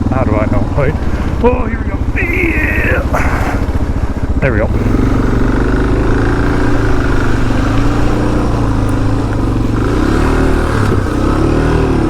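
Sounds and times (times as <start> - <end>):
motorcycle engine pulling through mud: 0.0 - 12.0.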